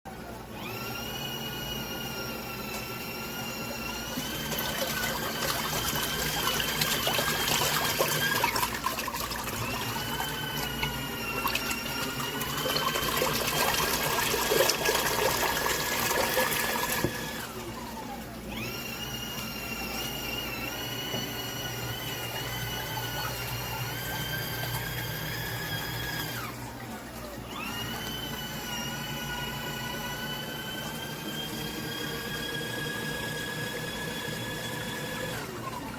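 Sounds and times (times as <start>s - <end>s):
washing machine motor whine: 0.1s - 35.9s
water sloshing in tub: 3.4s - 33.0s.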